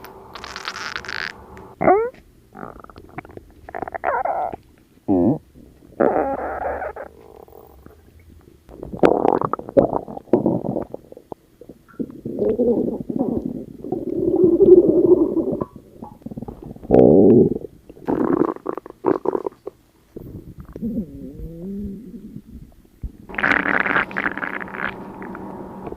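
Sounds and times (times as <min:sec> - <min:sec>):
stomach growling: 0:00.0 - 0:25.9.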